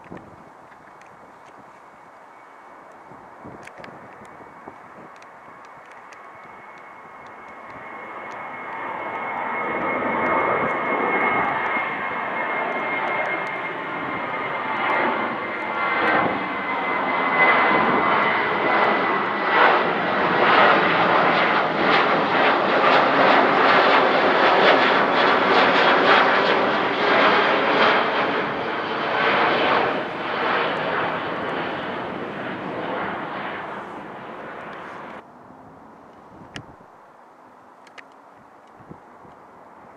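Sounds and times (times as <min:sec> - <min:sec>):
jet airliner engine roar: 0:00.0 - 0:39.9
high jet whine: 0:00.1 - 0:39.9.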